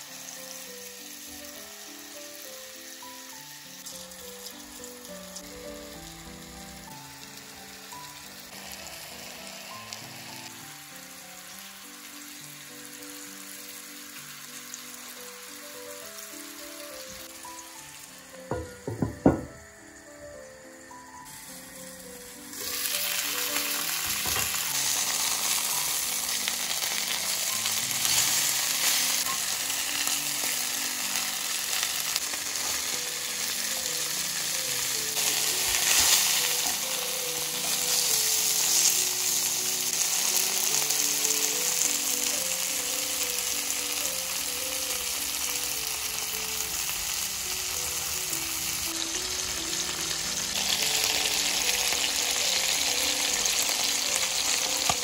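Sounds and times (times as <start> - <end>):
meat sizzling in a pan: 0.0 - 20.0, 21.2 - 55.0
quiet background music: 0.0 - 55.0.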